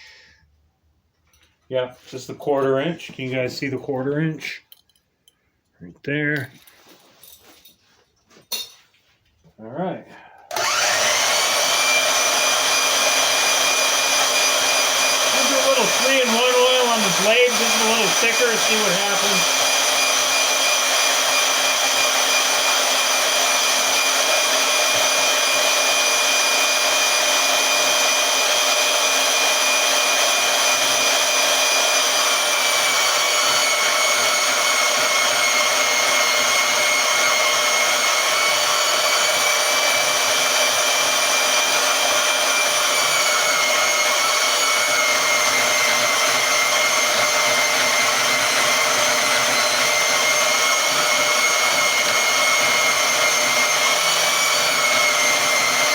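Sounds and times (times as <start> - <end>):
band saw cutting metal: 10.5 - 55.9.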